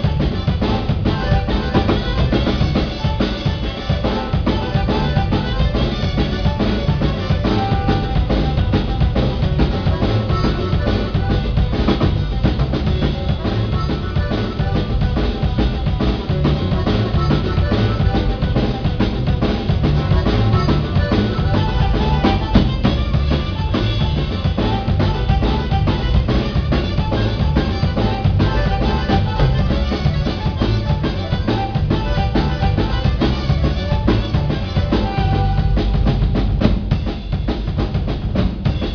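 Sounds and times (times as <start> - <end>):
bass drum and snare beat: 0.0 - 38.9
live band playing: 0.0 - 38.9.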